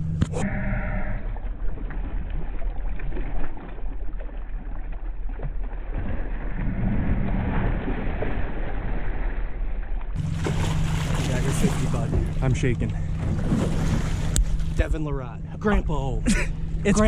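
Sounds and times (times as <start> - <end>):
low steady rumble: 0.0 - 17.0
water splashing and churning: 0.0 - 17.0.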